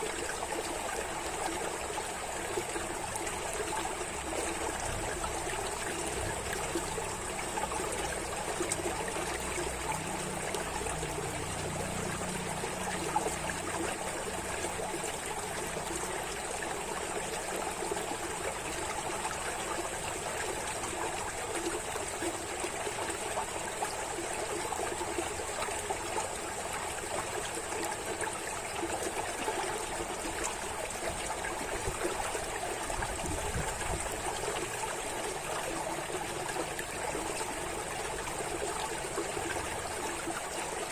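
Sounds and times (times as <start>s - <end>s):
water trickling like a stream: 0.0s - 40.9s.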